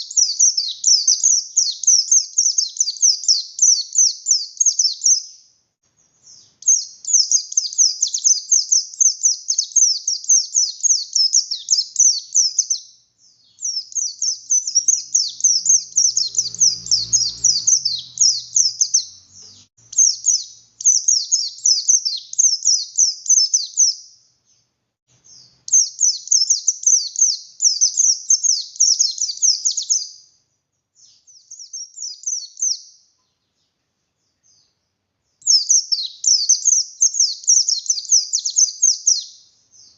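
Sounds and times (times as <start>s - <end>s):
bird high sharp chirping: 0.0s - 30.4s, 31.0s - 33.2s, 35.4s - 39.9s.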